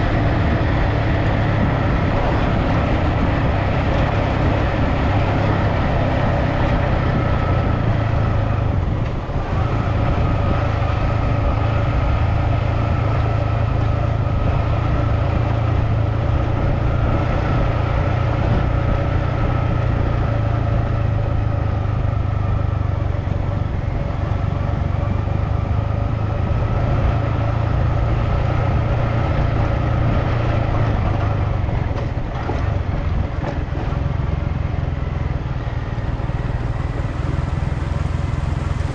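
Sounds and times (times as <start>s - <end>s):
vehicle engine and road rumble: 0.0s - 38.9s.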